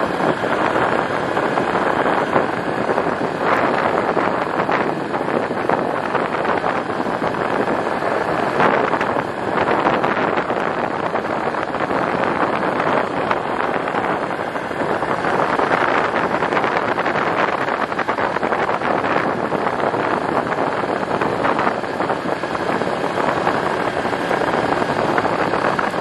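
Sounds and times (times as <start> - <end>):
tyres on gravel road: 0.0 - 26.0
wind on microphone: 0.0 - 26.0.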